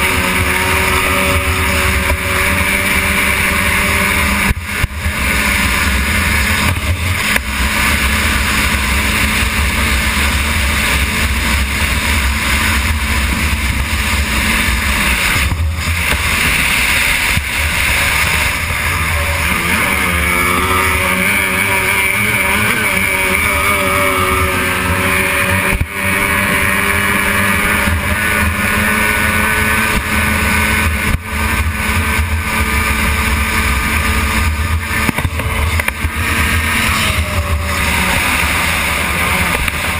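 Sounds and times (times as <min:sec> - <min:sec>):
racing outboard engine running hard: 0:00.0 - 0:39.9
wind and spray noise: 0:00.0 - 0:39.9.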